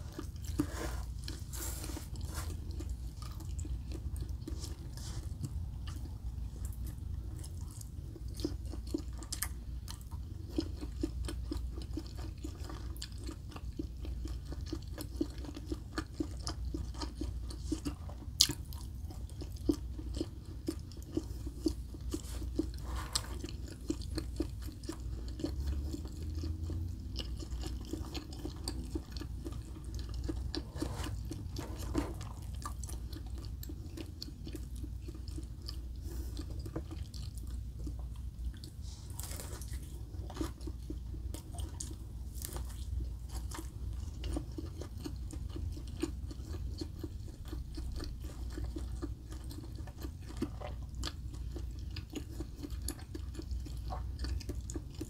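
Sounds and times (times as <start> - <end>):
food crunching: 0.0 - 55.0
person chewing food: 0.0 - 55.0.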